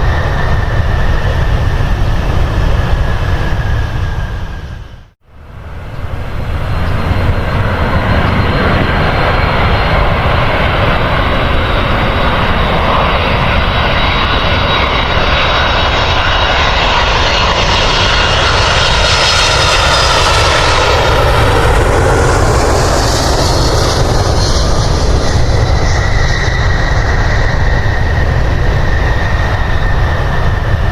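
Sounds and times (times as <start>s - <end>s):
airliner engines roaring: 0.0s - 30.9s.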